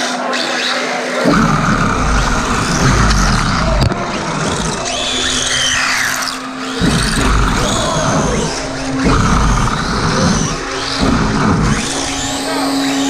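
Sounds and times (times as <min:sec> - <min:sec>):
electric motors whining: 0:00.0 - 0:13.0
low rumble: 0:01.3 - 0:13.0.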